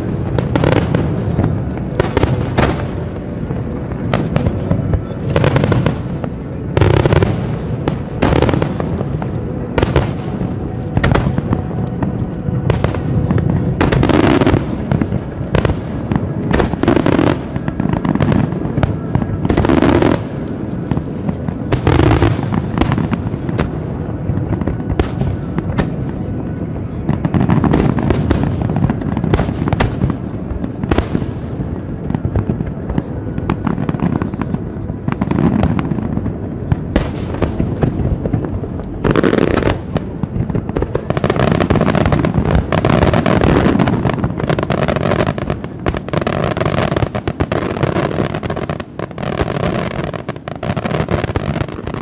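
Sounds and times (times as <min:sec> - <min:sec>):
firework crackling: 0:00.0 - 0:52.0.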